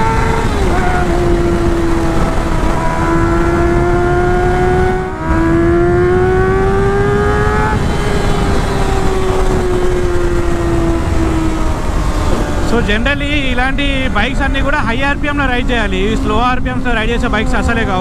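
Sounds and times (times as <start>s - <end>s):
motorcycle engine pulling hard: 0.0s - 18.0s
wind rushing over microphone: 0.0s - 18.0s.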